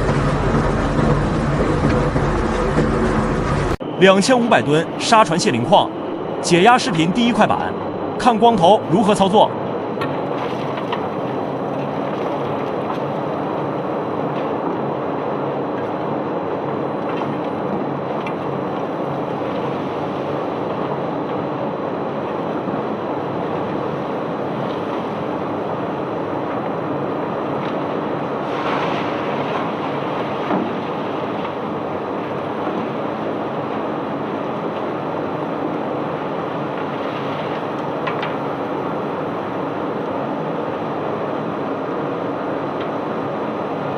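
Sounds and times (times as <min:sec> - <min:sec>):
machinery hum: 0:00.0 - 0:43.9.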